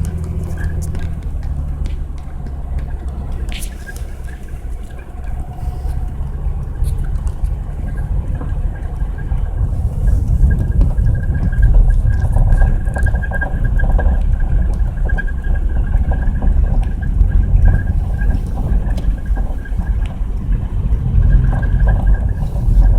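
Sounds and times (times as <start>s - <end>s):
engine and tyres rumbling: 0.0s - 22.9s
faint high whine: 0.0s - 22.9s.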